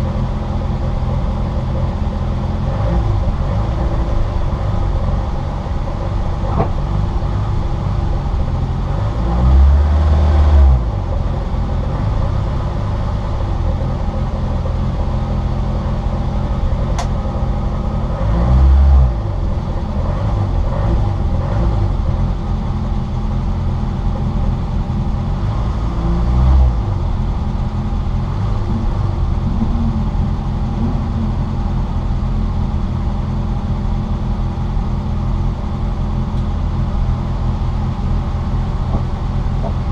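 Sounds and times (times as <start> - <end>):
car engine running hard: 0.0 - 39.9
road noise: 0.0 - 39.9.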